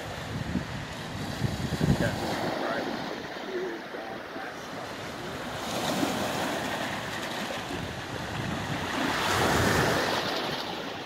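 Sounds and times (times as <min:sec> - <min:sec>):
wind on microphone: 0:00.0 - 0:03.5, 0:04.4 - 0:11.0
waves washing against boulders: 0:00.0 - 0:11.0.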